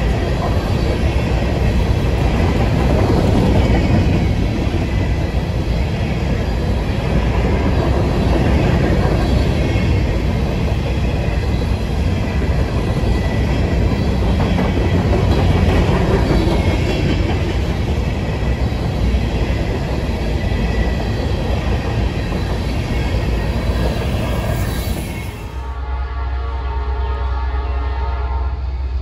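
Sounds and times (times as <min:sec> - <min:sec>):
train wheels rumbling and rattling: 0:00.0 - 0:25.7.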